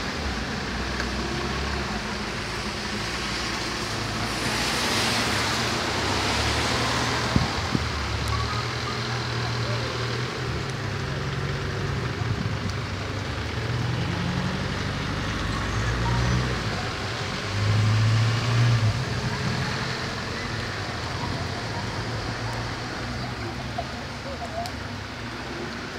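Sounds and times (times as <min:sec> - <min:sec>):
vehicle engine rumble: 0:00.0 - 0:25.9.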